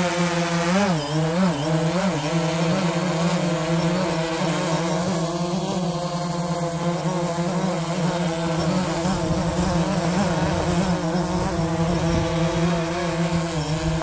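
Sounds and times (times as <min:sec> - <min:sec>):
drone propellers buzzing: 0:00.0 - 0:14.0.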